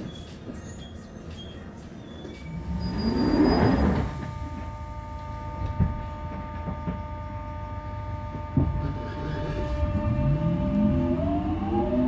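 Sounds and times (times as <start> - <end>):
train electrical hum with whining tones: 0.0 - 12.0.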